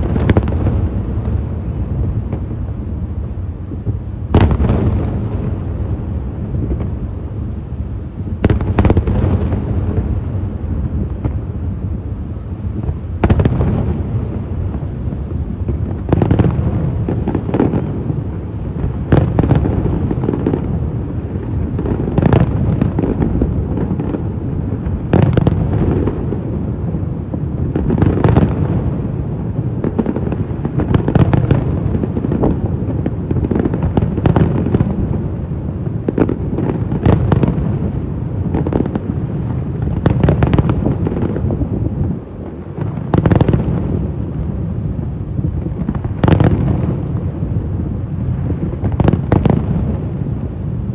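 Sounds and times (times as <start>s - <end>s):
fireworks crackling: 0.0s - 50.9s
low rumble of fireworks booms: 0.0s - 50.9s.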